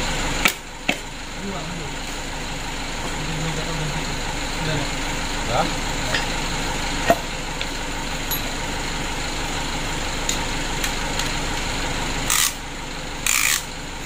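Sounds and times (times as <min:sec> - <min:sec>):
motor drone: 0:00.0 - 0:14.0.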